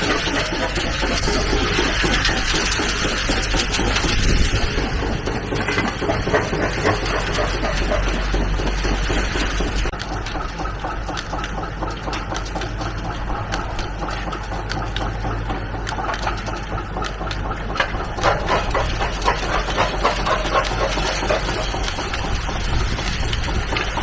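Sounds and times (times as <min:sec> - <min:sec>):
stone cracking in rock crusher: 0:00.0 - 0:24.0
tractor engine running: 0:00.0 - 0:24.0.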